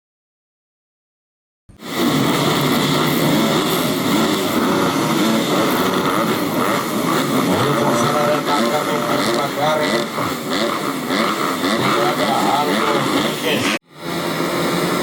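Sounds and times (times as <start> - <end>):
motocross bike engines revving: 1.8 - 15.0.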